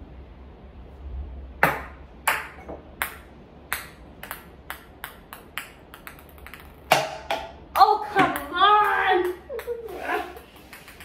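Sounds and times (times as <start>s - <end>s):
ping-pong ball bouncing: 1.6s - 11.0s.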